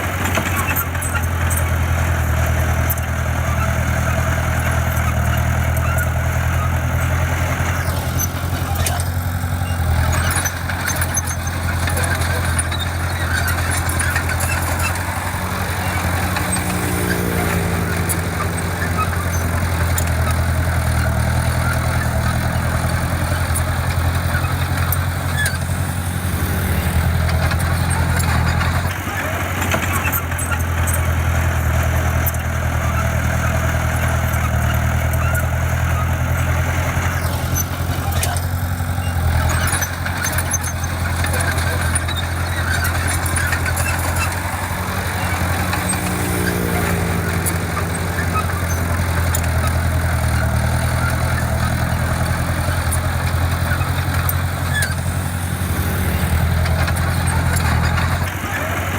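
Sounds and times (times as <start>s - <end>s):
diesel engine humming: 0.0s - 58.9s.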